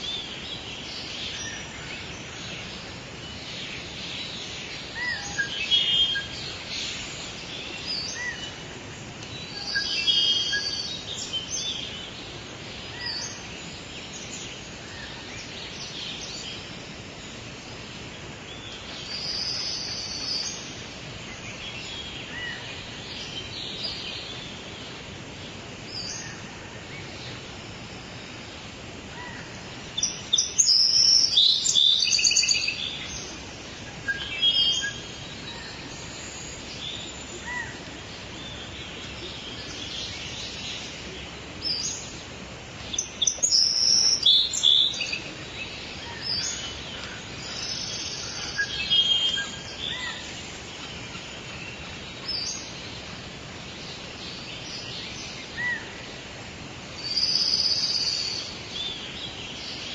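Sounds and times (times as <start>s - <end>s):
birds singing and chirping: 0.0s - 59.9s
steady background hiss: 0.0s - 59.9s.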